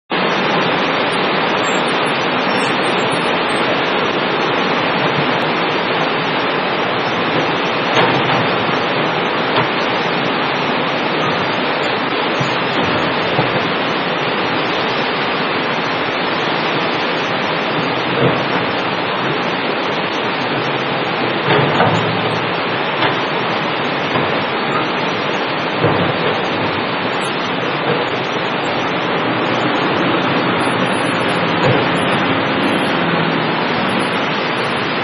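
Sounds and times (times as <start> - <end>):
heavy rain pouring: 0.1 - 35.0.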